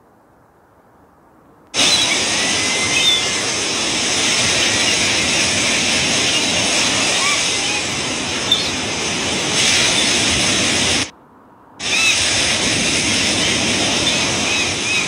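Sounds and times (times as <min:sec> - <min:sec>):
faint hiss: 0:00.0 - 0:11.2, 0:11.8 - 0:15.0
loud rush of noise: 0:01.7 - 0:15.0
whistle-like glides: 0:01.8 - 0:11.1, 0:11.8 - 0:15.0.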